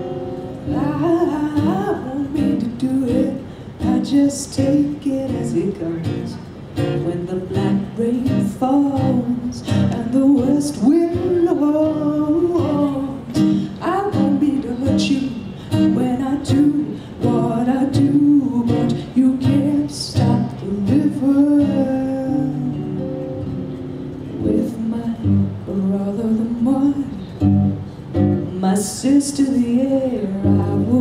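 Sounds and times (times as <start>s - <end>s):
acoustic guitar: 0.0s - 31.0s
woman singing: 0.6s - 23.2s, 24.3s - 27.6s, 28.4s - 31.0s.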